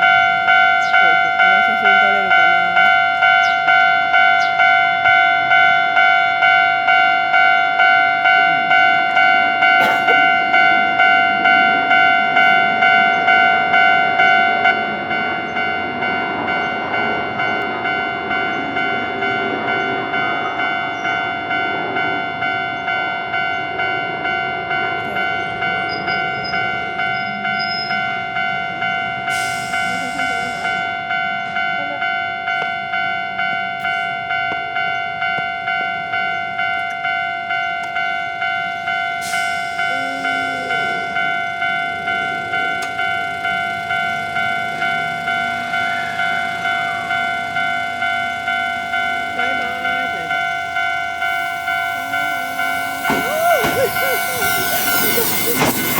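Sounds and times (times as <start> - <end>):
level crossing warning bell ringing: 0.0 - 55.9.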